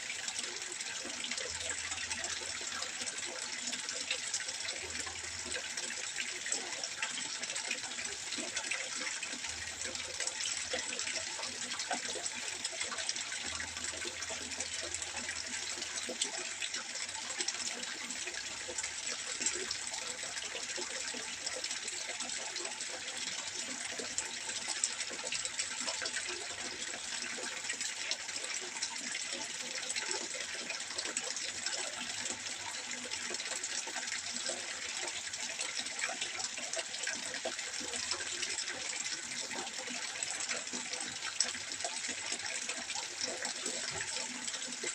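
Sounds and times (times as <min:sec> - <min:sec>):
water trickling into a pond: 0:00.0 - 0:44.9.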